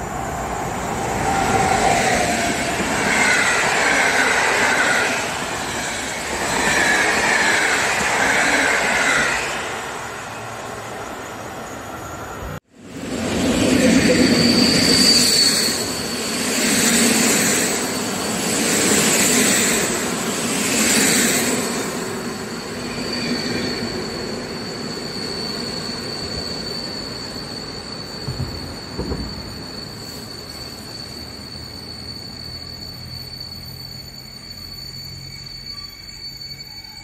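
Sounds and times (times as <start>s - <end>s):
train passing at speed: 0.0s - 37.0s.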